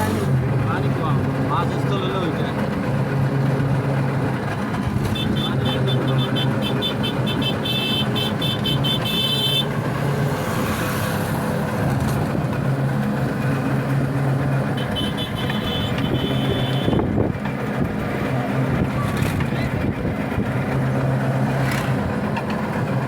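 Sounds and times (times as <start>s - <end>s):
vehicle running with road noise: 0.0s - 23.0s.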